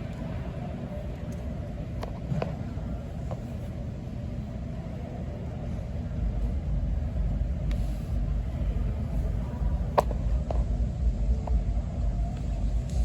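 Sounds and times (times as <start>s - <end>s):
ice arena rumble: 0.0s - 13.0s.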